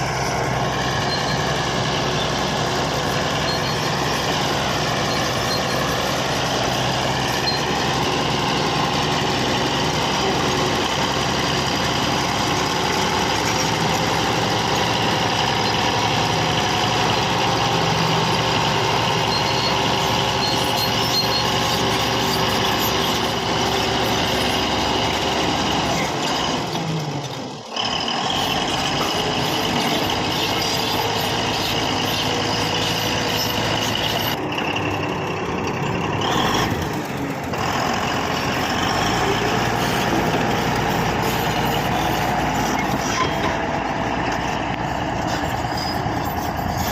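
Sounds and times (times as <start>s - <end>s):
bulldozer diesel engine: 0.0s - 46.9s.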